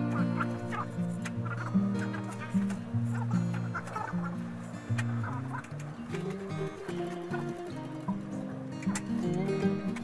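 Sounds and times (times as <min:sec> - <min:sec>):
background music tune: 0:00.0 - 0:10.0.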